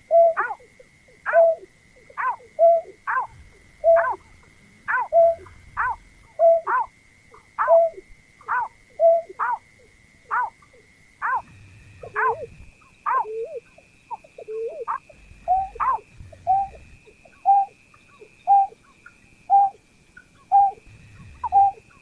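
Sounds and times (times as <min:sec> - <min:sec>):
faint steady high tone: 0:00.0 - 0:22.0
sharp bird calls: 0:00.0 - 0:22.0.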